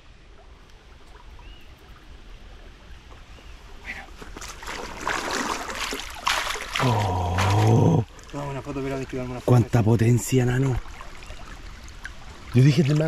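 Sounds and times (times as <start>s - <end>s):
water rushing in a canal: 0.0s - 13.0s.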